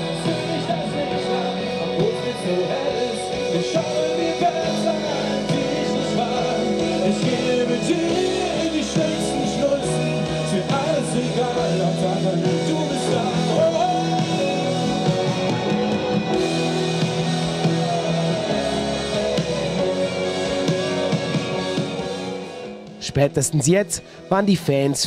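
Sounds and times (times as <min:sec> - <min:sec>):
man singing: 0:00.0 - 0:16.3, 0:17.0 - 0:21.3
rock band playing: 0:00.0 - 0:24.9.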